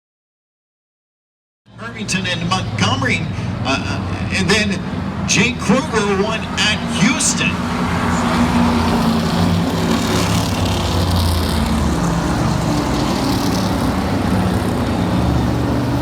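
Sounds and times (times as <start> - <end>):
racing car engines droning: 1.7 - 16.0.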